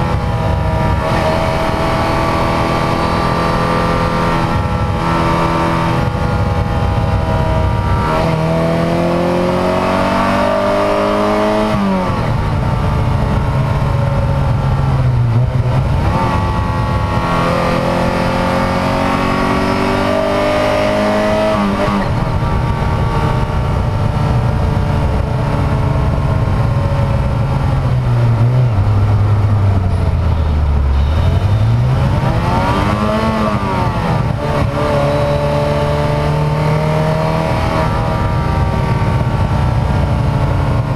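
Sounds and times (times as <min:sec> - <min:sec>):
car engine revving while driving: 0:00.0 - 0:30.0, 0:31.0 - 0:40.9.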